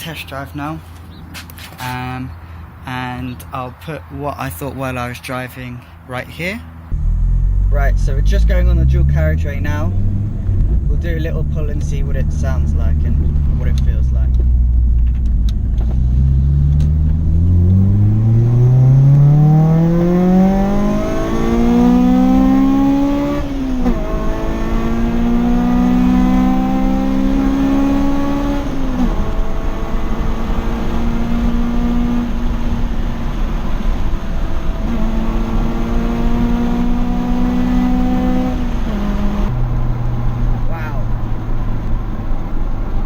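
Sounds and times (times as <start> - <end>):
car engine accelerating hard: 6.9 - 43.0.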